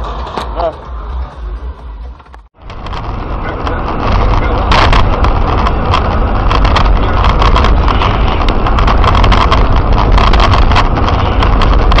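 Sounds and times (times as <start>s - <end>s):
moving vehicle rumble: 0.0s - 12.0s
knocks and rattles: 2.1s - 12.0s.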